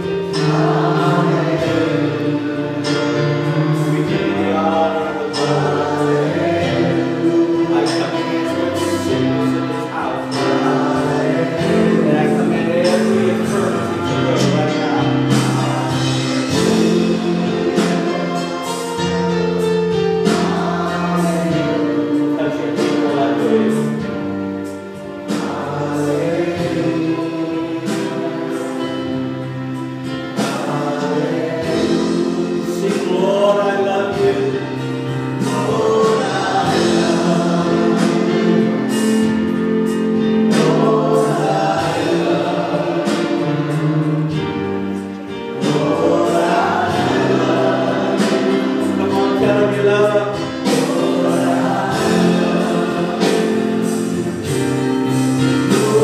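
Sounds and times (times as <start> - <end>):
group singing gospel song: 0.0 - 56.0
keyboard: 0.0 - 56.0.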